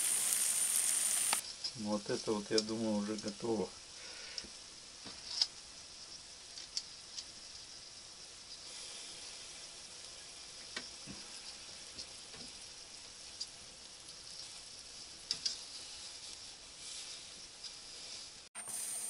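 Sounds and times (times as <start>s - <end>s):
sausages sizzling on grill: 0.0s - 19.0s.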